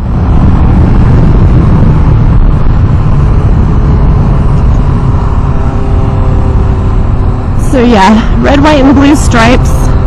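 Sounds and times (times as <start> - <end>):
motorcycle engine running: 0.0 - 10.0
wind buffeting microphone: 0.0 - 10.0.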